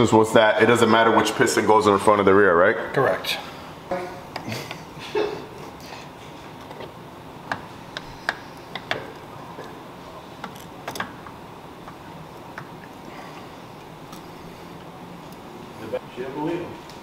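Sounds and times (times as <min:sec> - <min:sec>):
faint workshop hum: 0:00.0 - 0:17.0.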